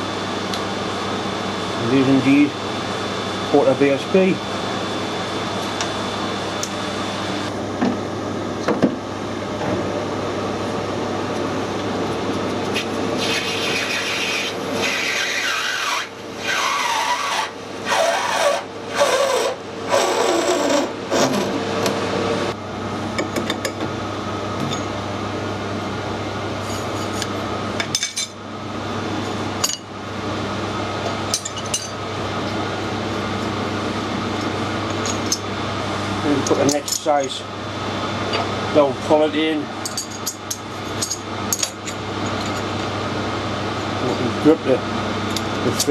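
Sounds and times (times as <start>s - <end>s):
workshop machine hum: 0.0s - 45.9s.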